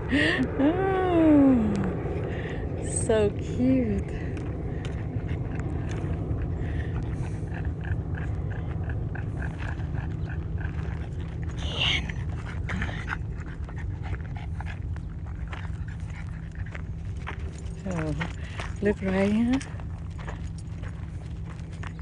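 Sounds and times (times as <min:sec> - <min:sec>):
low rumble: 0:00.0 - 0:22.0
dog panting: 0:01.8 - 0:22.0.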